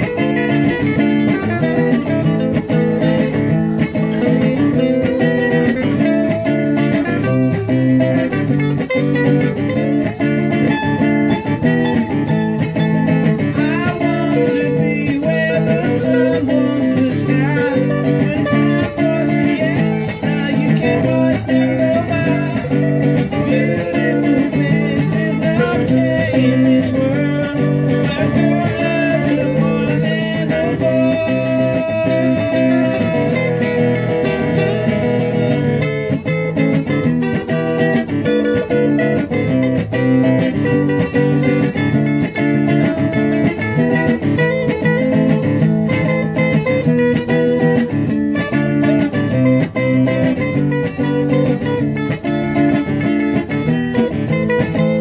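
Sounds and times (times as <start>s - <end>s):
acoustic guitars strumming: 0.0s - 55.0s.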